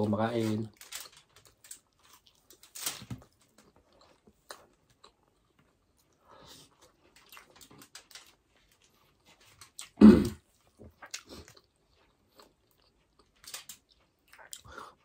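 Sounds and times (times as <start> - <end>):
soft chewing: 0.6 - 15.0.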